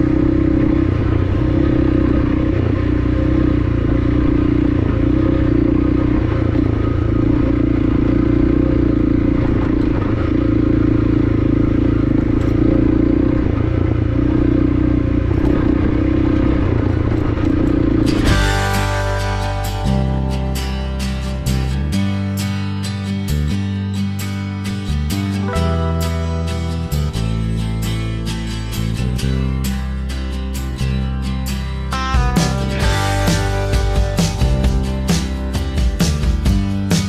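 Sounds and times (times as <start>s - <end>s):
guitar music: 0.0s - 37.0s
motorcycle engine running: 0.0s - 37.0s.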